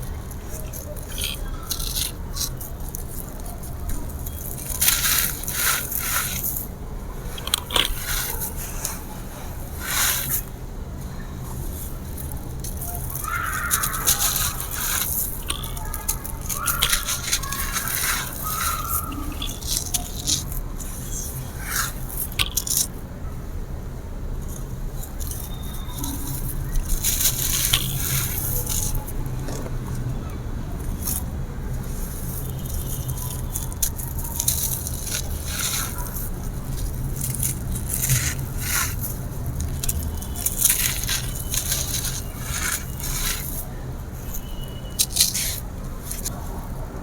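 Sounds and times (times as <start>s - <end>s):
concrete crumbling and crunching: 0.0s - 10.5s, 11.6s - 23.0s, 25.0s - 29.9s, 30.8s - 46.8s
gritty scraping: 0.0s - 23.1s, 24.4s - 47.0s.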